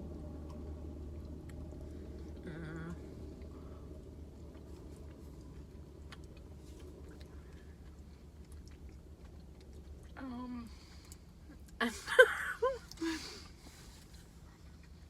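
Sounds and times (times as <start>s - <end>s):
steady low hum: 0.0s - 15.0s
chewing: 0.2s - 11.8s, 12.8s - 15.0s.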